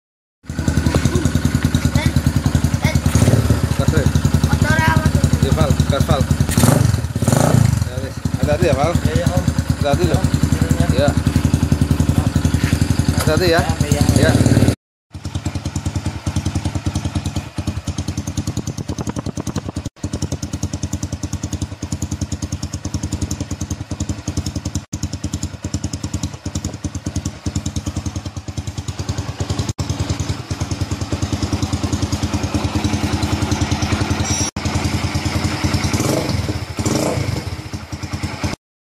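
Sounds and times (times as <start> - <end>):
motorcycle engine idling: 0.4 - 38.6.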